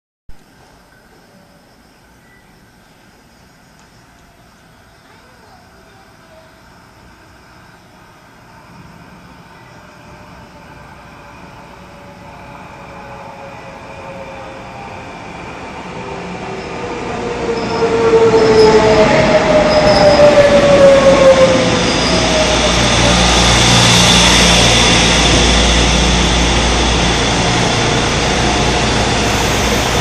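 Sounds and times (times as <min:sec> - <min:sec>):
electric train passing: 0:00.4 - 0:30.0.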